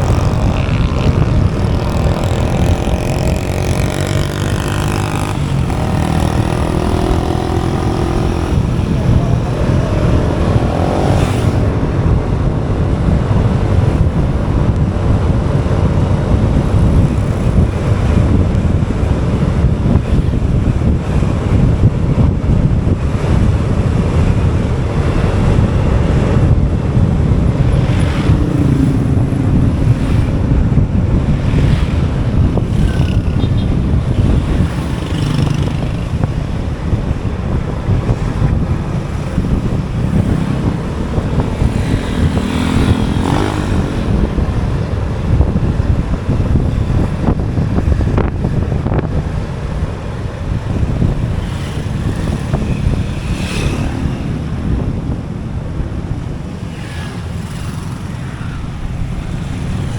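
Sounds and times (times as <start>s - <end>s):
motorbike engine: 0.0s - 59.9s
road traffic noise: 0.0s - 59.9s
wind buffeting microphone: 0.0s - 59.9s.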